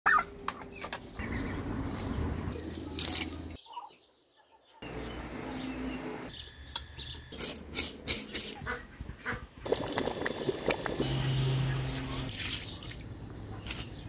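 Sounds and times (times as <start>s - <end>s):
birds chirping: 0.1s - 9.8s, 11.0s - 14.0s.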